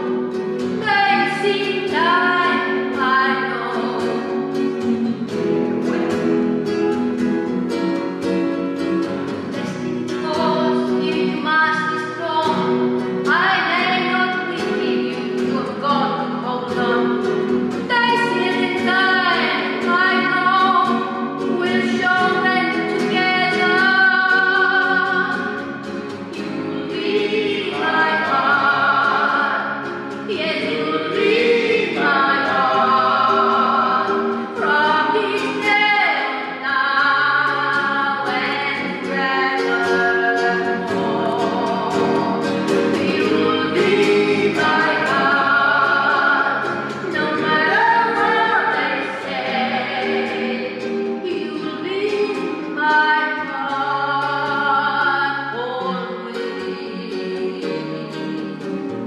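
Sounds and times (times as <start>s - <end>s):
recorded song with vocals: 0.0s - 6.4s, 7.7s - 59.0s.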